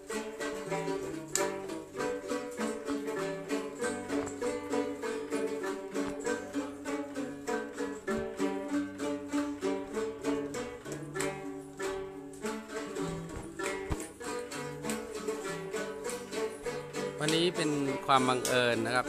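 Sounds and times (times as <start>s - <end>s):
plucked string instruments: 0.0s - 19.0s.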